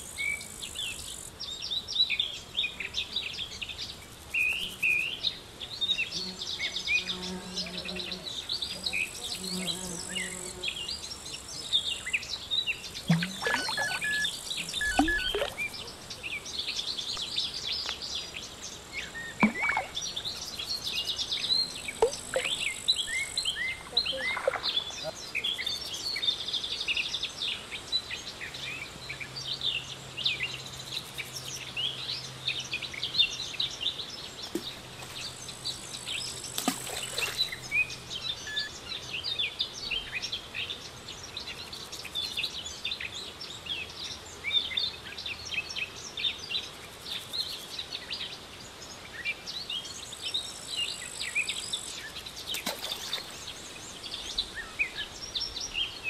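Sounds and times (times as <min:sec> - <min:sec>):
light outdoor background noise: 0:00.0 - 0:56.0
small birds chirping: 0:00.0 - 0:56.0.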